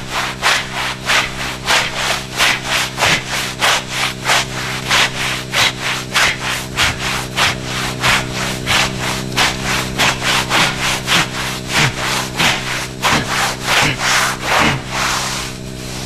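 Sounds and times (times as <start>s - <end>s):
rhythmic rubbing: 0.0s - 16.0s
steady low drone: 0.0s - 16.0s.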